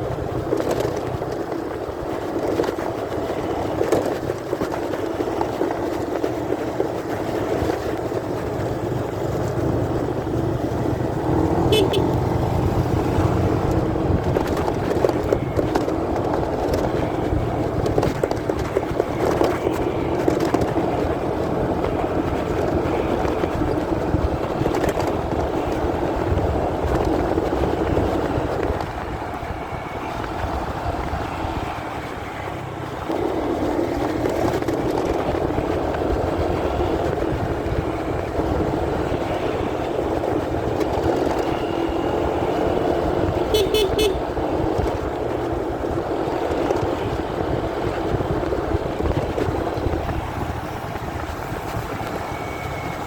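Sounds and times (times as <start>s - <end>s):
muffled motorcycle engine: 0.0s - 53.0s
wind rumble: 0.0s - 53.0s.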